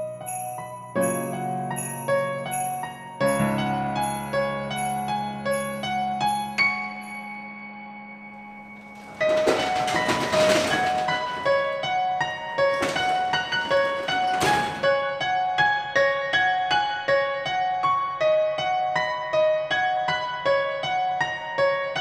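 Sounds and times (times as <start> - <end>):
piano melody: 0.0 - 22.0.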